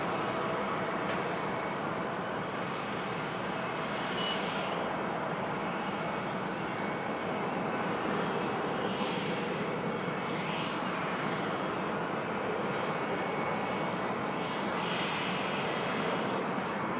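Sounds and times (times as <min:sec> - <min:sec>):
jet engines roaring on landing: 0:00.0 - 0:16.9.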